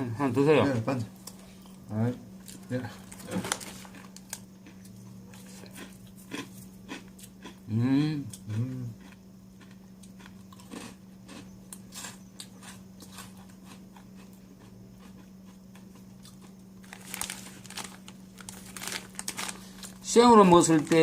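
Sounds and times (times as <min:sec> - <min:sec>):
low electrical hum: 0:00.0 - 0:21.0
chewing crunchy dry noodles: 0:02.4 - 0:21.0.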